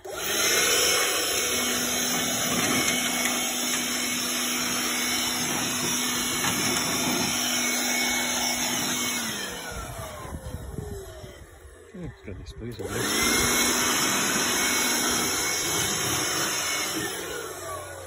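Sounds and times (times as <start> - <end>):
air blower motor whine: 0.0 - 18.0.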